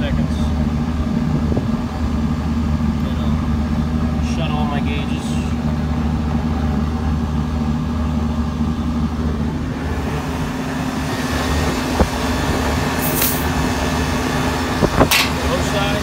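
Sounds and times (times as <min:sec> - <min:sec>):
air conditioner unit humming: 0:00.0 - 0:16.0.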